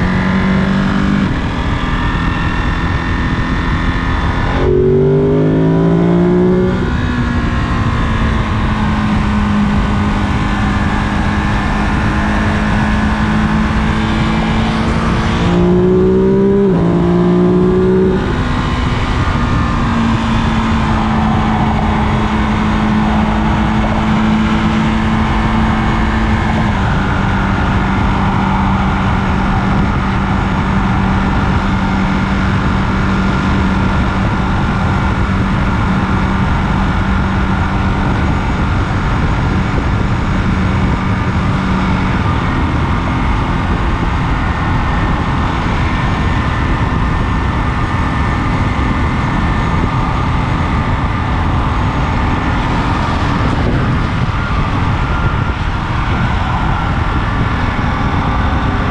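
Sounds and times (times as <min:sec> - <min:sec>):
motorcycle engine at highway speed: 0:00.0 - 0:58.9
wind rush: 0:00.0 - 0:58.9.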